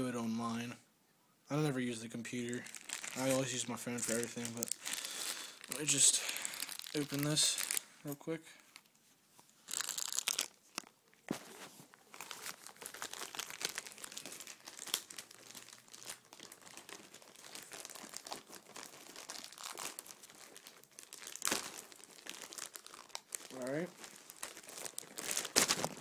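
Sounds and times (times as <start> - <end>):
packaging crinkling and tearing: 2.3 - 8.0, 9.5 - 26.0.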